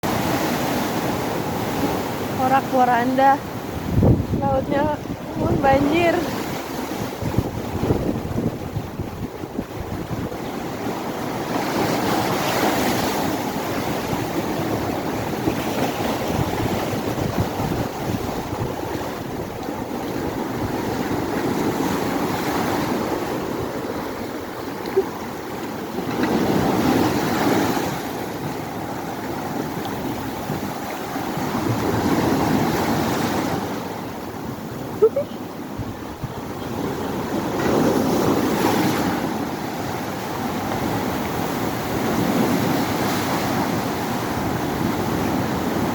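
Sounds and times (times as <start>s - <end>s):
storm surf breaking on beach: 0.0s - 45.9s
wind buffeting microphone: 0.0s - 45.9s.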